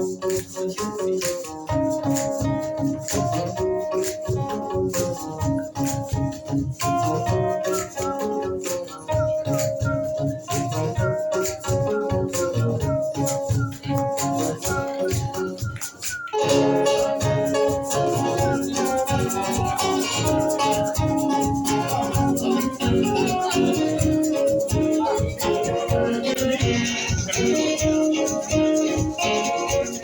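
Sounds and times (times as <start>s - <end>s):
live band playing: 0.0s - 30.0s.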